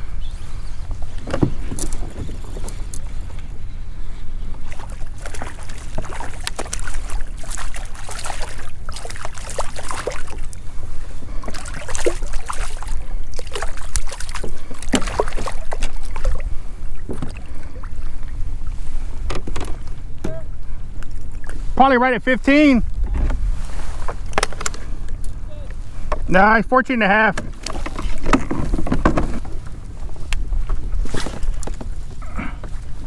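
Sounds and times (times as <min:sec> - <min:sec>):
water splashing and lapping: 0:00.0 - 0:21.8, 0:22.9 - 0:26.3, 0:27.4 - 0:33.0
wind buffeting microphone: 0:00.0 - 0:33.0.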